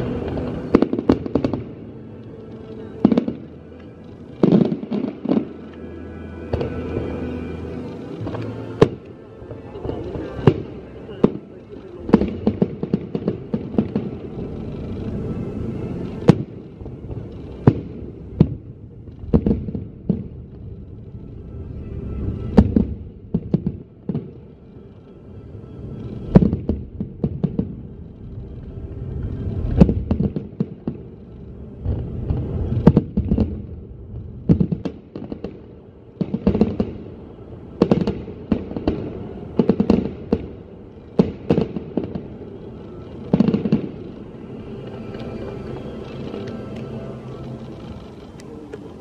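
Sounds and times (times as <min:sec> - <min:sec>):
fireworks bangs with crackle: 0:00.0 - 0:01.9, 0:02.8 - 0:05.7, 0:08.2 - 0:15.3, 0:16.0 - 0:21.0, 0:22.2 - 0:24.5, 0:26.2 - 0:28.4, 0:29.4 - 0:31.2, 0:31.8 - 0:49.0
low rumble: 0:00.0 - 0:49.0.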